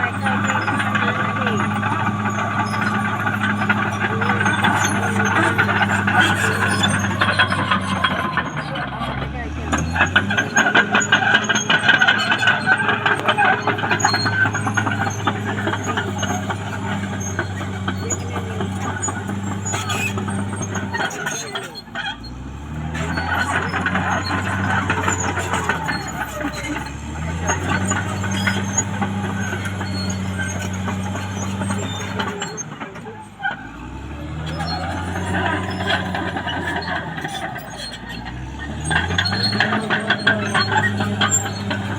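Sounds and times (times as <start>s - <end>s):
bulldozer diesel engine: 0.0s - 41.9s
steel tracks clanking: 0.0s - 41.9s
steel tracks squealing: 0.0s - 41.9s.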